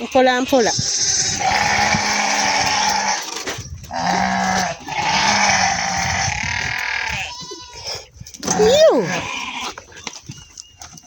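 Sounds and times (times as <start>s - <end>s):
goats bleating: 0.0s - 3.3s, 3.9s - 9.9s.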